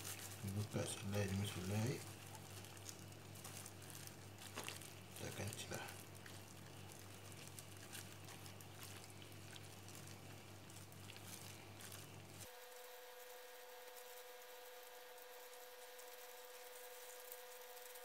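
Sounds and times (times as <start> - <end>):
gloved hands squishing cabbage: 0.0 - 18.0
low steady hum: 0.0 - 18.0.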